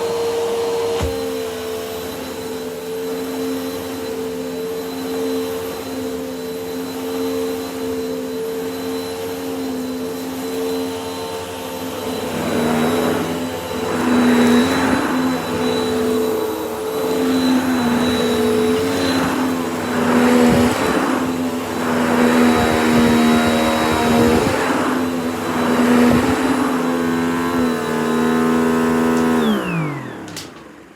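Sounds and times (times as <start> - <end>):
vacuum cleaner motor whine: 0.0 - 30.9.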